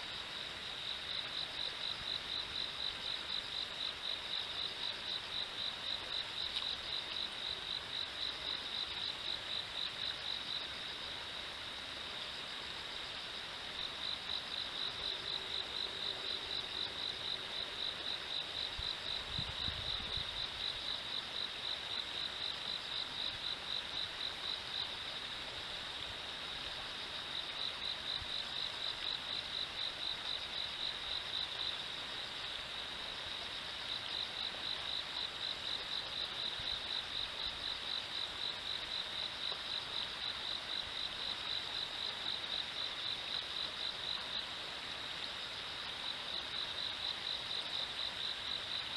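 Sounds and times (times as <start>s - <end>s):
insect chirping: 0.0s - 48.9s.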